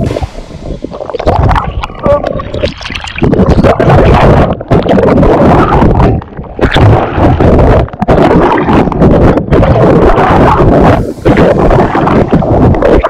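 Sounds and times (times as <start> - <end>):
microphone buffeting: 0.0 - 13.0
water rushing: 0.0 - 13.0.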